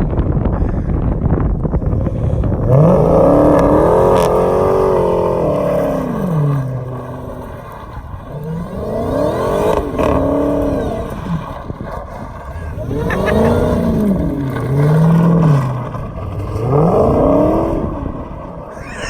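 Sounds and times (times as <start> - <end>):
car engine revving hard: 1.7 - 19.0.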